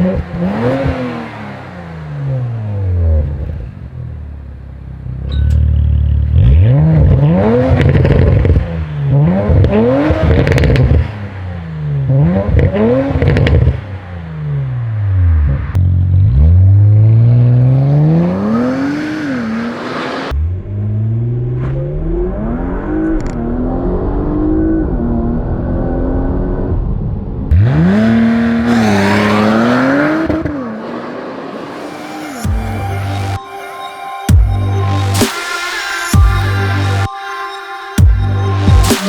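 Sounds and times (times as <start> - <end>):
car engine accelerating hard: 0.0 - 33.4.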